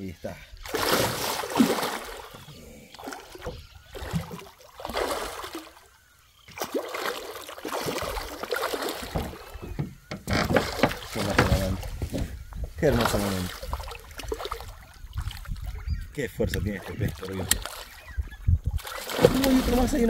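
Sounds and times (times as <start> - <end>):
water splashing around boat: 0.5 - 20.0.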